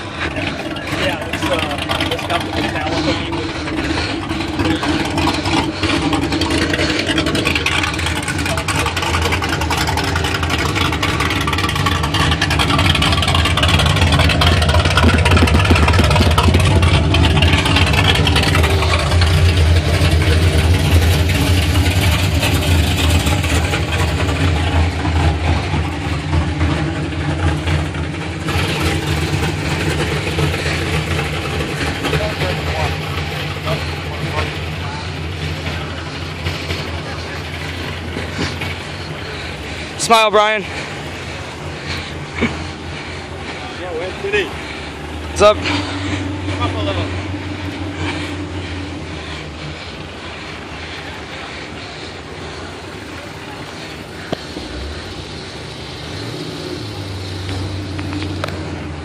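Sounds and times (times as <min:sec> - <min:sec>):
car engines idling: 0:00.0 - 0:59.0.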